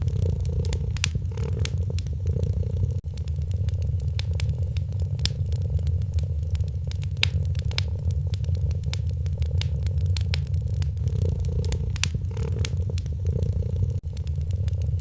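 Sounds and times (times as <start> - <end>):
cat purring: 0.0 - 15.0
fire crackling and popping: 0.0 - 15.0.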